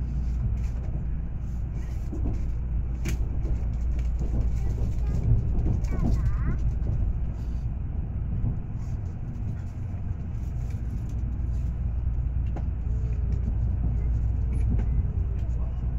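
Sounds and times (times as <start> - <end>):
train rumble from inside cabin: 0.0 - 15.9.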